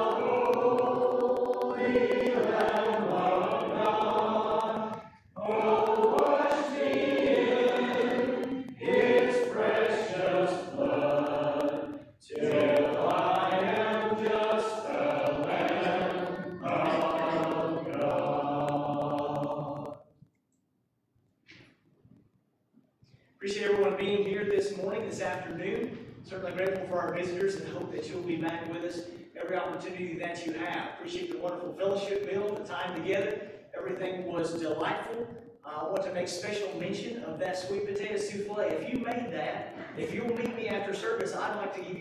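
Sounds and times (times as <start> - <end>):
congregation singing a hymn: 0.0 - 20.0, 23.5 - 35.4, 36.2 - 42.0.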